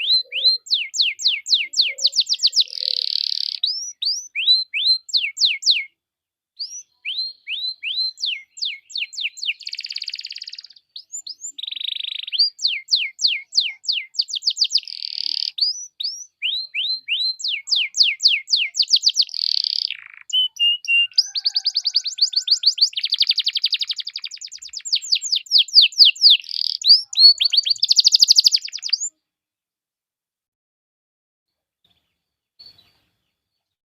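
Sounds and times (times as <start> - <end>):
canary singing: 0.0 - 6.0, 6.6 - 29.2.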